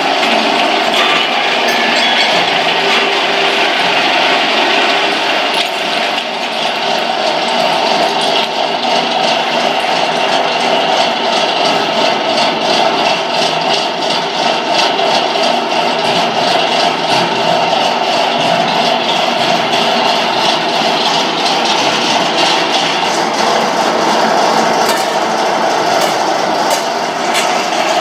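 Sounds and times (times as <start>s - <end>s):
vibration feeder humming: 0.0s - 28.0s.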